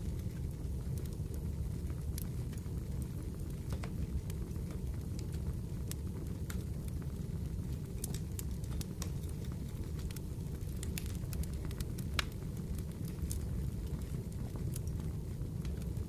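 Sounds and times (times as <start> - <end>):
fireplace crackling and popping: 0.0 - 16.0.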